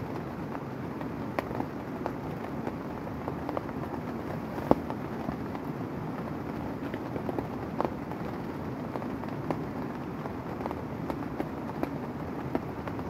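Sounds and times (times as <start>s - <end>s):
heavy rain on tent fabric: 0.0s - 13.0s.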